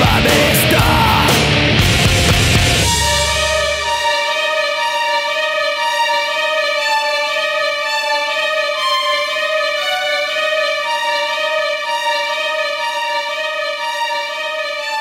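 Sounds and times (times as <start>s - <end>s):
music with long held notes: 0.0s - 15.0s.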